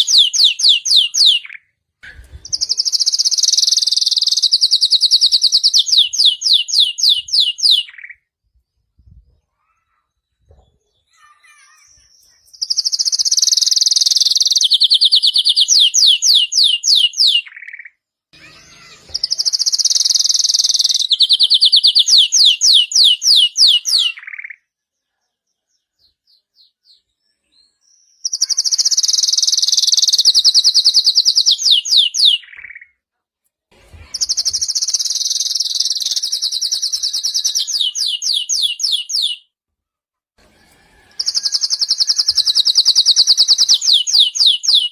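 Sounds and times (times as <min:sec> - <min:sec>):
canary singing: 0:00.0 - 0:01.7, 0:02.4 - 0:08.3, 0:09.5 - 0:24.7, 0:25.6 - 0:33.0, 0:34.0 - 0:39.6, 0:40.8 - 0:44.9.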